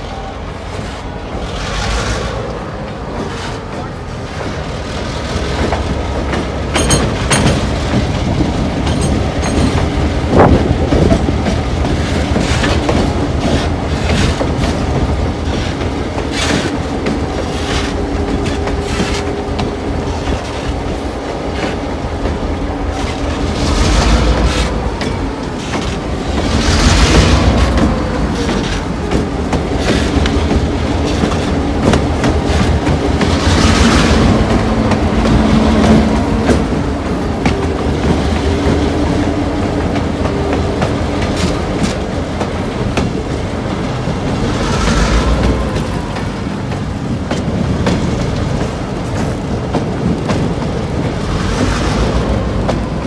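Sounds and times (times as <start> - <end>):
train rumbling past: 0.0 - 53.0
wheels clicking over rail joints: 0.0 - 53.0.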